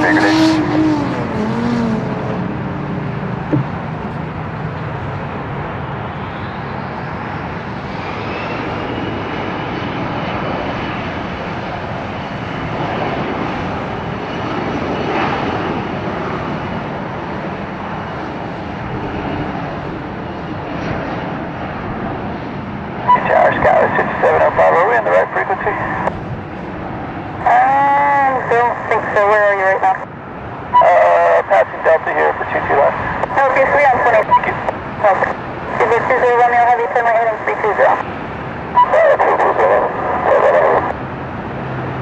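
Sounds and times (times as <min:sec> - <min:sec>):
jet taking off: 0:00.0 - 0:42.0.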